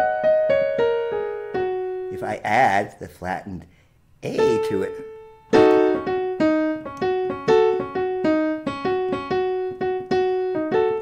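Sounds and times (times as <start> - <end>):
piano playing a scale: 0.0 - 2.8, 4.4 - 11.0.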